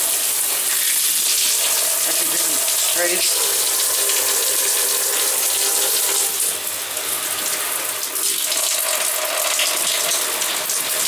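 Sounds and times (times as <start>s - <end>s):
shower spraying on tiled wall: 0.0s - 11.0s.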